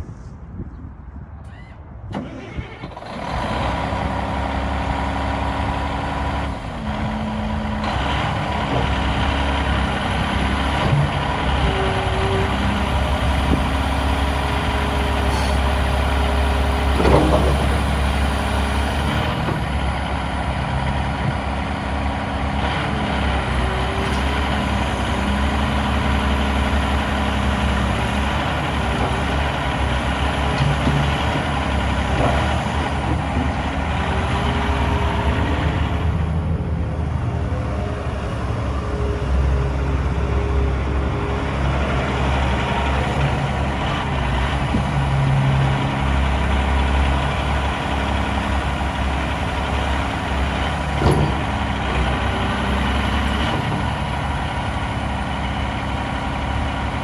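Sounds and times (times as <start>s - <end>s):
excavator diesel engine under load: 2.1s - 57.0s.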